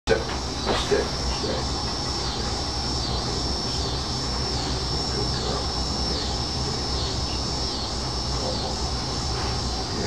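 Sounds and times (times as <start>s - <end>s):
background hum: 0.1s - 10.0s
high-pitched whine: 0.1s - 10.0s.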